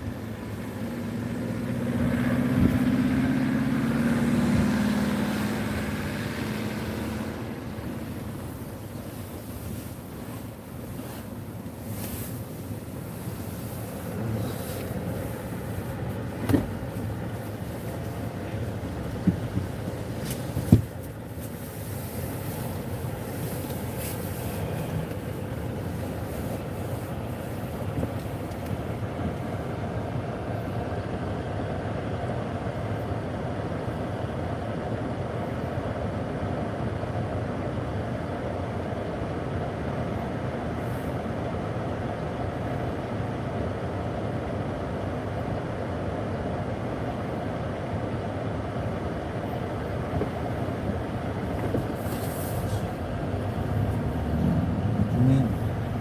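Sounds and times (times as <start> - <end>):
car driving on snow: 0.0 - 56.0.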